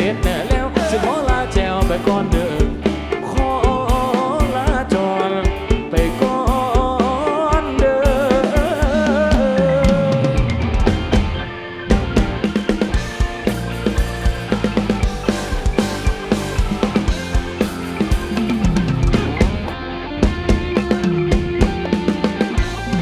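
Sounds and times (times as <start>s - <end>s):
drum kit and bass: 0.0s - 23.0s.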